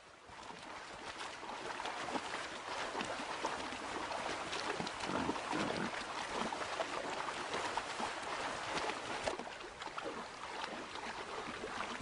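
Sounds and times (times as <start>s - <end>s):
animals splashing through river: 0.0s - 12.0s
running water: 0.0s - 12.0s.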